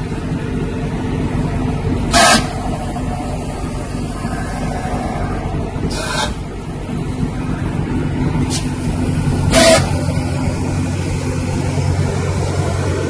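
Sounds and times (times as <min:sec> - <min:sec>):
machine motor low hum: 0:00.0 - 0:13.0
loud bursts of noise: 0:00.2 - 0:13.0.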